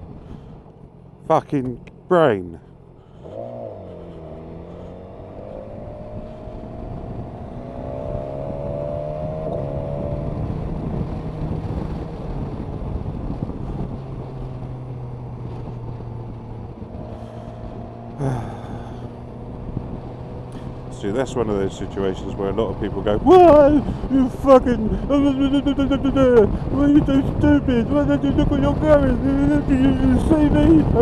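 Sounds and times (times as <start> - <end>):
wind noise on microphone: 0.0 - 0.7, 3.5 - 31.0
motorcycle engine accelerating: 2.7 - 31.0.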